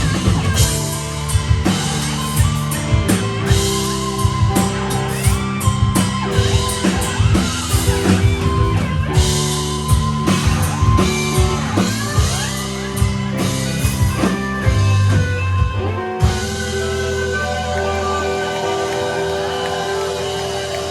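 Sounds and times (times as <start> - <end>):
bass guitar: 0.0 - 20.9
distorted electric guitars: 0.0 - 20.9
drum kit: 0.0 - 20.9.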